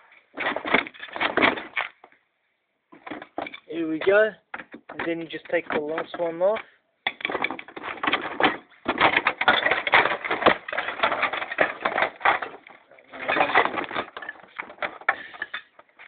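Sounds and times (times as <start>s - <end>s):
plastic and metal parts rattling: 0.3s - 2.2s, 2.9s - 16.0s.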